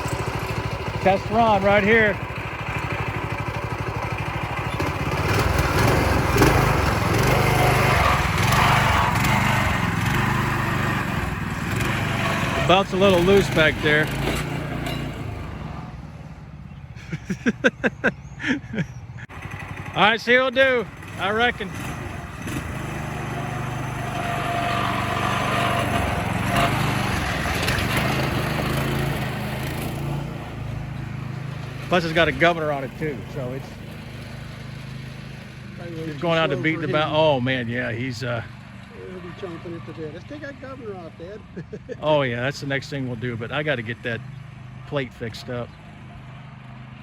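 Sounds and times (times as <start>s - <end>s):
go-kart engine running: 0.0s - 47.0s.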